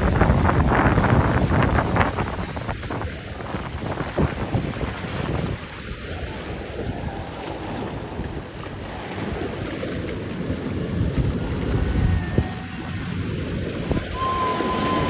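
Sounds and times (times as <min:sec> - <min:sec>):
boats rumbling past: 0:00.0 - 0:15.0
churning water: 0:00.0 - 0:15.0
wind buffeting microphone: 0:00.0 - 0:15.0.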